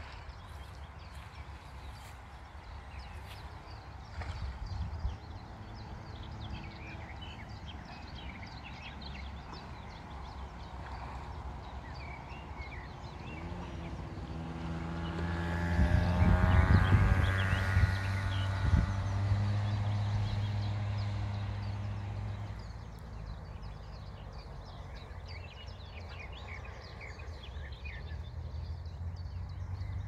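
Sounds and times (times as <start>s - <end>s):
passing engine hum: 0.0s - 30.0s
small birds chirping: 0.0s - 30.0s.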